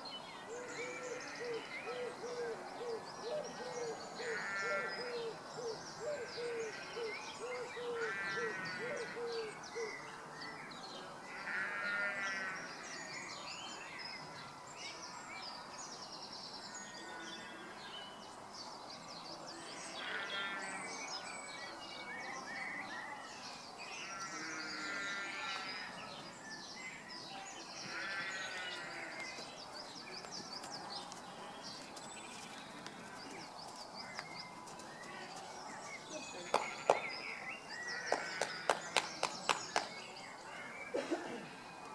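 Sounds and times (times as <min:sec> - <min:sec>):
birds singing and chirping: 0:00.0 - 0:41.9.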